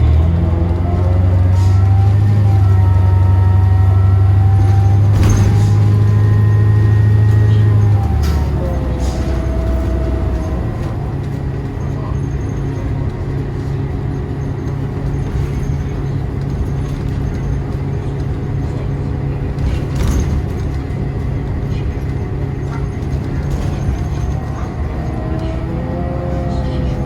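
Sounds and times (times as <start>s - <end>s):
bus diesel engine drone: 0.0s - 27.0s.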